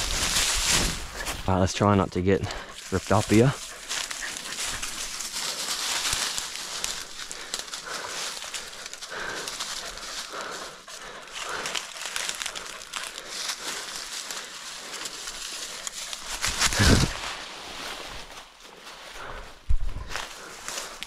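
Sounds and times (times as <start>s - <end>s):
dry leaves crunching: 0.0s - 1.7s, 2.4s - 21.0s.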